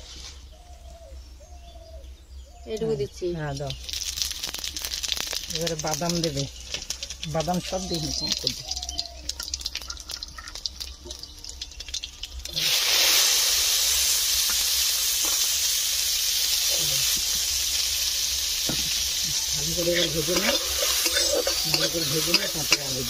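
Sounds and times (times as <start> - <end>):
peanuts sizzling in hot oil: 3.4 - 23.0.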